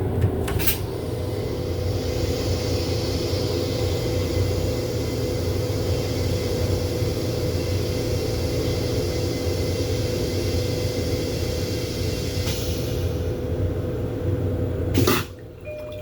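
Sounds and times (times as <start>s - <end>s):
electric railcar rumble and hiss: 0.0s - 15.4s.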